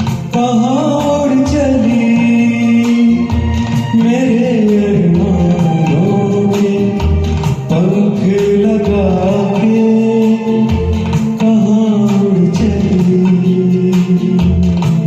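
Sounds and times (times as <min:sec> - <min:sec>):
backing track with percussion: 0:00.0 - 0:15.0
person singing: 0:00.0 - 0:15.0.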